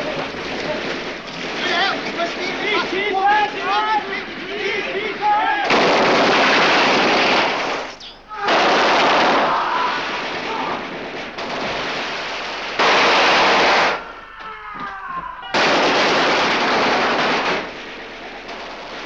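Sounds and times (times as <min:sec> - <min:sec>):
machine-gun fire: 0:00.0 - 0:14.2, 0:15.5 - 0:19.0.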